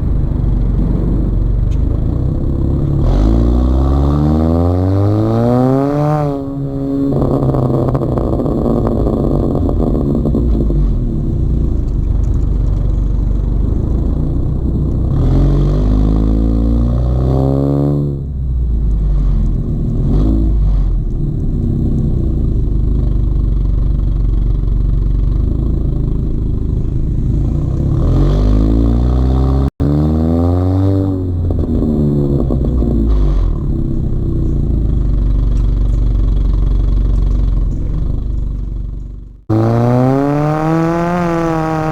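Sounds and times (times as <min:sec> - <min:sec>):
car exhaust accelerating through gears: 0:00.0 - 0:41.9.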